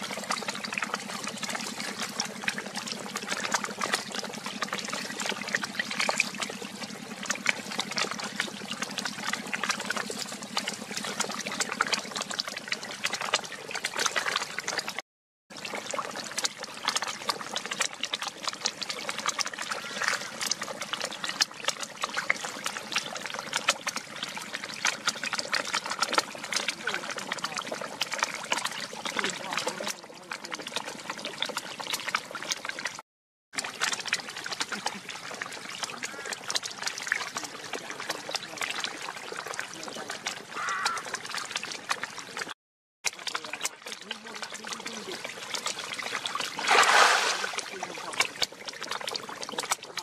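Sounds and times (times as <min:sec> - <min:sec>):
fish splashing at water surface: 0:00.0 - 0:33.0, 0:33.6 - 0:50.0.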